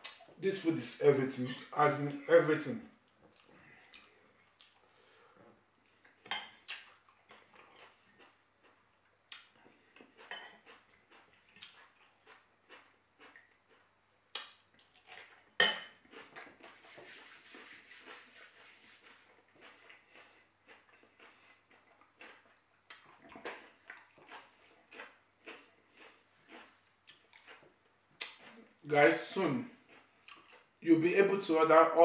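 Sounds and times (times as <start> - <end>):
chewing: 3.1 - 30.8.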